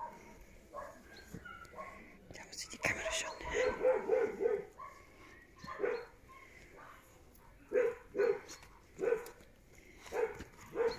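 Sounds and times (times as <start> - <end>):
dog barking: 0.0 - 2.1, 2.7 - 9.4, 10.1 - 10.9.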